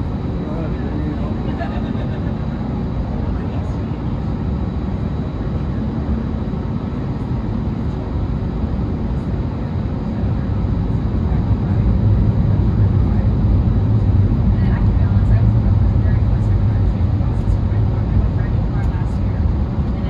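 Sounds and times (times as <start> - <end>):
jet engine and airframe rumble: 0.0 - 20.0.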